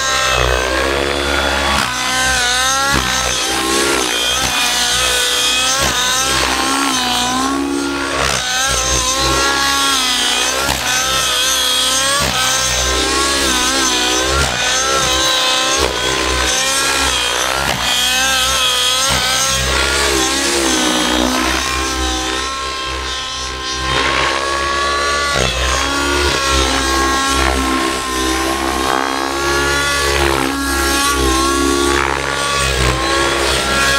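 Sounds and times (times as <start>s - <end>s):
model helicopter engine running hard: 0.0s - 33.9s.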